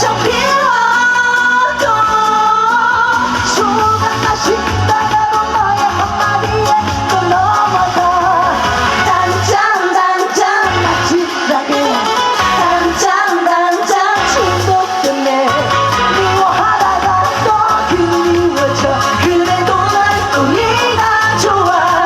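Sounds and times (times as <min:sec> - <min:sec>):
pop song over a pa: 0:00.0 - 0:22.0
woman singing over a beat: 0:00.0 - 0:22.0.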